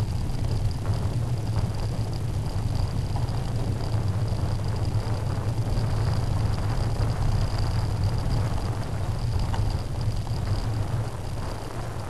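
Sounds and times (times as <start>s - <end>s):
bicycle rumbling over dirt path: 0.0s - 12.0s
faint high whine: 0.0s - 12.0s.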